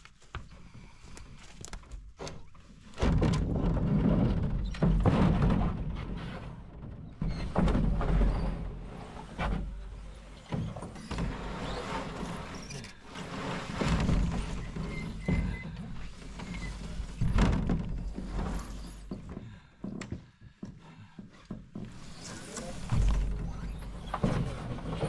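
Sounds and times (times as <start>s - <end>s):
camping gear knocking and rustling: 0.0s - 25.0s.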